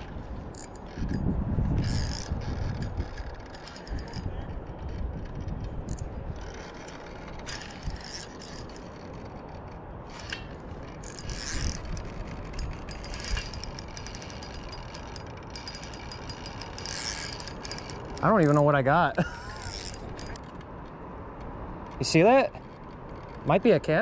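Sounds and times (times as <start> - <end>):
fishing reel ticking: 0.0 - 20.5.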